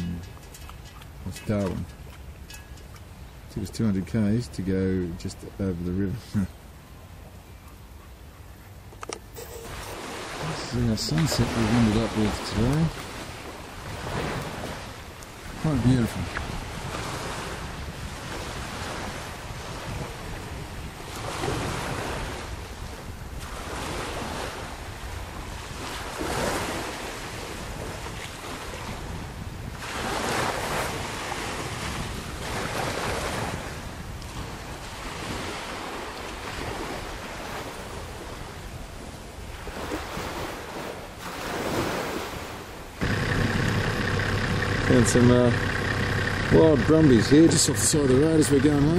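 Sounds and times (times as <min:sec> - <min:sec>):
wind on microphone: 0:06.0 - 0:48.9
small waves washing ashore: 0:09.3 - 0:48.9.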